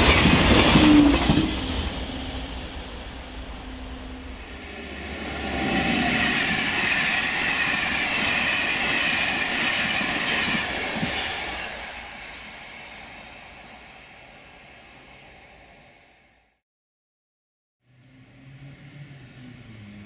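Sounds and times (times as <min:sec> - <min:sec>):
passenger train passing at speed: 0:00.0 - 0:16.6, 0:17.9 - 0:20.0.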